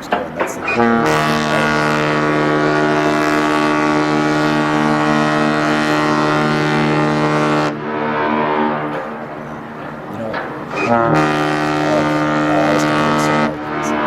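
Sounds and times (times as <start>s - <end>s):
ship's horn low blast: 0.0s - 14.0s.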